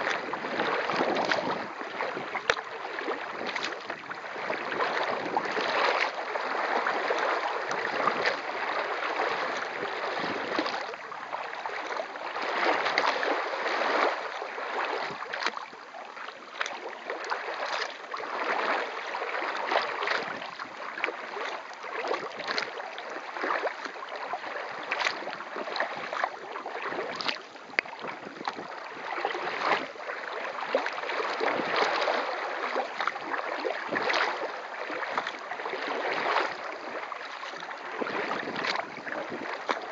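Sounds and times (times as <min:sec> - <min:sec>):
paddle strokes splashing: 0:00.0 - 0:39.9
water splashing around kayak: 0:00.0 - 0:39.9.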